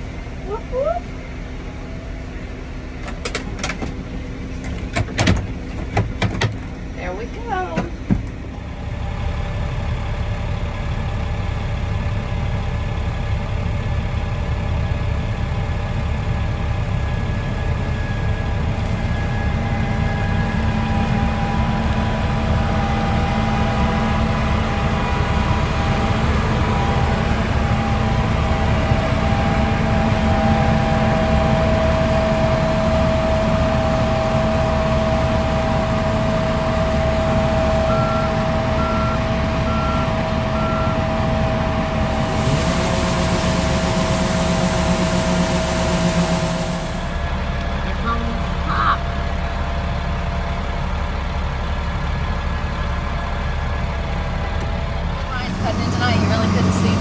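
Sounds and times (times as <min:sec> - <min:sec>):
farm vehicle engine drone: 0:00.0 - 0:57.0.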